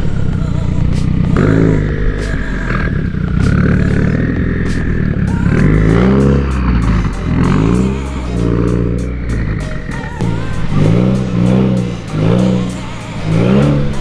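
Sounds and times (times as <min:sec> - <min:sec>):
background music with steady beat: 0:00.0 - 0:14.0
car engine revving: 0:00.0 - 0:14.0.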